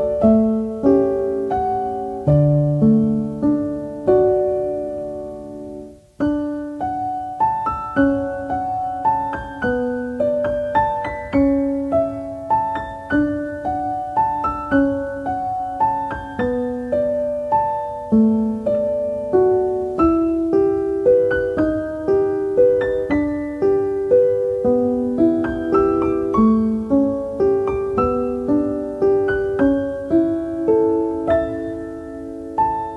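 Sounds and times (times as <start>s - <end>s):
gentle piano melody: 0.0s - 32.9s.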